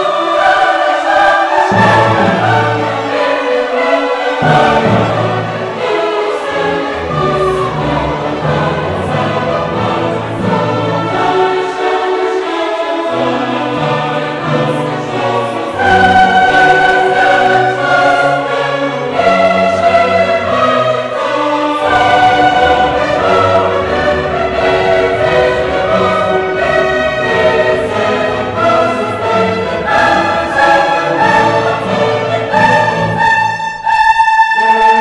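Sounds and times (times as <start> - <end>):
slow choral and orchestral music: 0.0 - 35.0.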